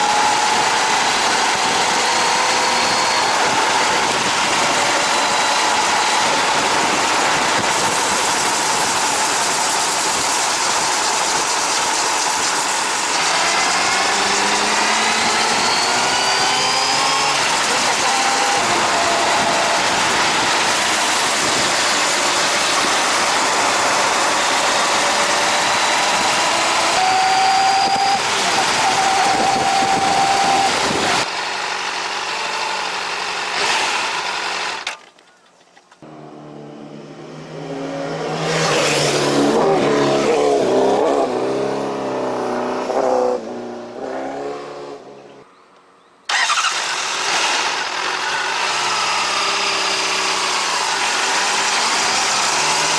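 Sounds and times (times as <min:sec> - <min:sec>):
motorcycle engine: 0:00.0 - 0:45.6, 0:46.3 - 0:52.9.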